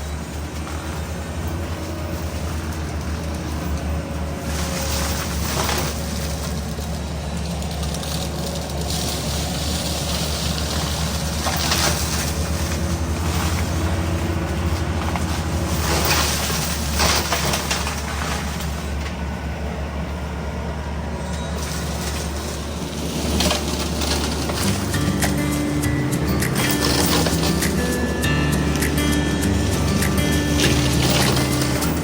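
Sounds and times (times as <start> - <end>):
excavator diesel engine running: 0.0 - 32.0
mulcher shredding undergrowth: 0.0 - 32.0.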